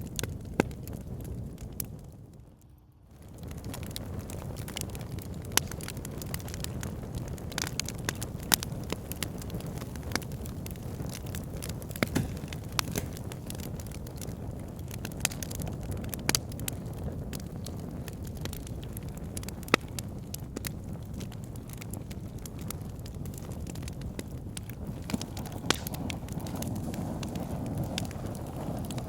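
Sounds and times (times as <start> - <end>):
fire pit crackling: 0.0 - 29.0.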